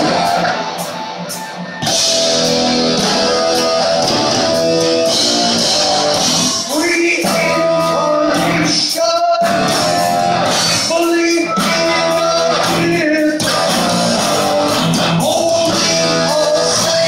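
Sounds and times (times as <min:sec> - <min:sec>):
bass guitar: 0:00.0 - 0:17.0
drums: 0:00.0 - 0:17.0
electric guitar: 0:00.0 - 0:17.0
person singing: 0:03.0 - 0:17.0.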